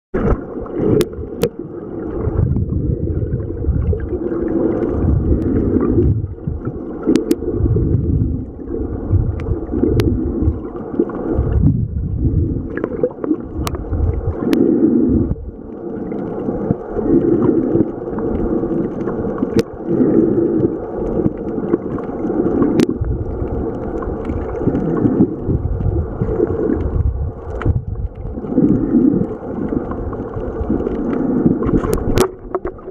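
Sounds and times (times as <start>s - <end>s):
muffled underwater sloshing water: 0.1s - 32.9s.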